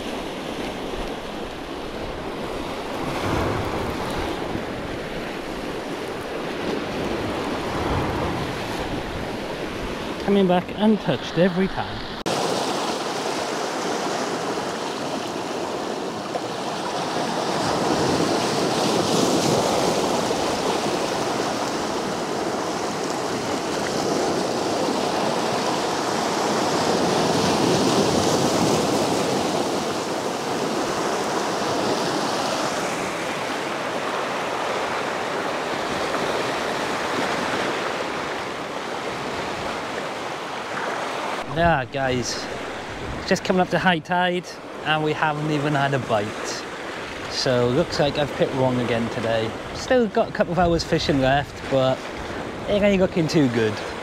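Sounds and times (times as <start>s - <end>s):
waves breaking over rocks: 0.0s - 54.0s.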